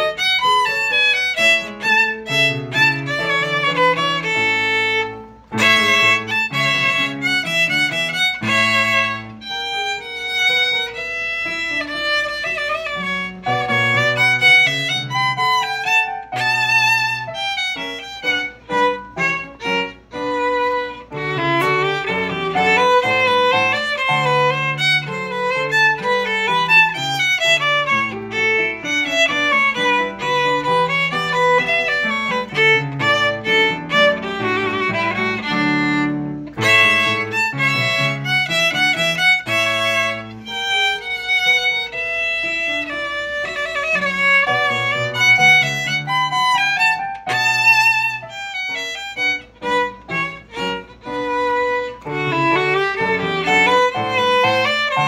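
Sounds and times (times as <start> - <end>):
violin playing: 0.0 - 55.0.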